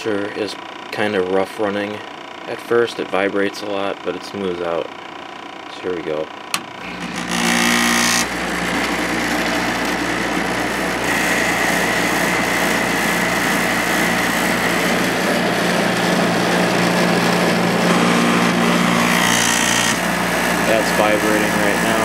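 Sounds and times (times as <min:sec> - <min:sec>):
air conditioner fan: 0:00.0 - 0:22.0
compressor running rough: 0:00.0 - 0:22.0.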